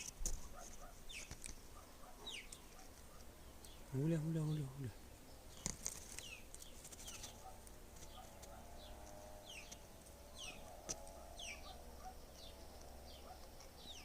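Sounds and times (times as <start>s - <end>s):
young pigeons squeaking: 0.0s - 4.6s, 5.2s - 14.0s.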